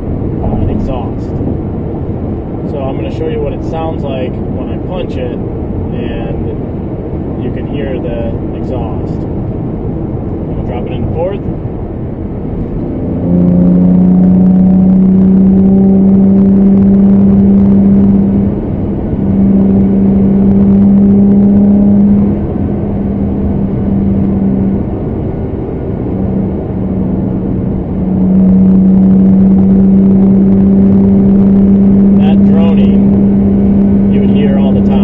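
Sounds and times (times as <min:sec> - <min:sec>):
car exhaust drone: 0:00.0 - 0:35.0.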